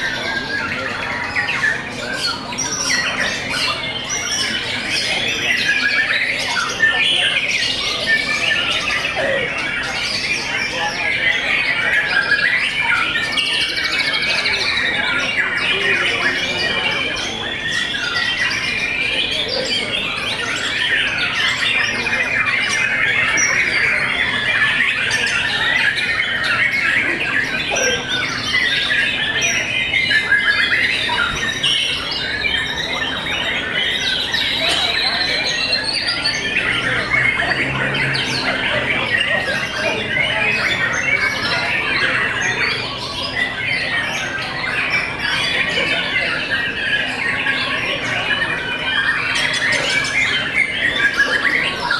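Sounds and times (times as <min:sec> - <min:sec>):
birds singing in chorus: 0:00.0 - 0:51.9.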